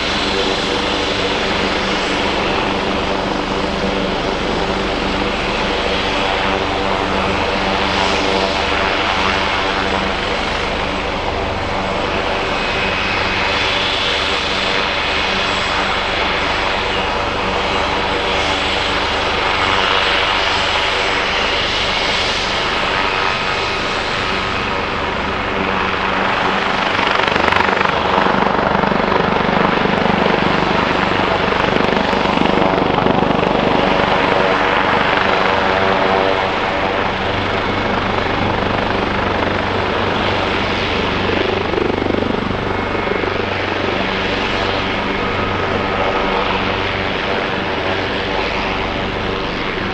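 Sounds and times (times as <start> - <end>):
helicopter engine and rotor drone: 0.0 - 49.9.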